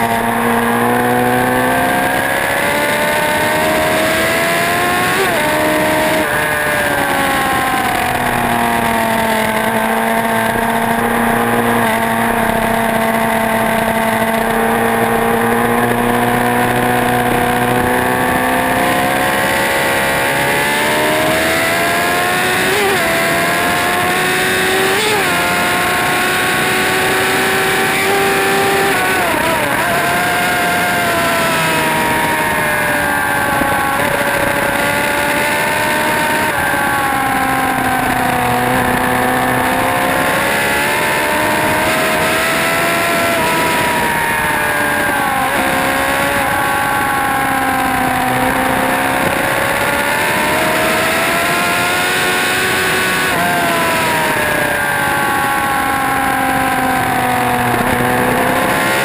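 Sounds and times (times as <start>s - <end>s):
motorcycle engine accelerating and braking: 0.0s - 59.0s
wind noise: 1.7s - 59.0s.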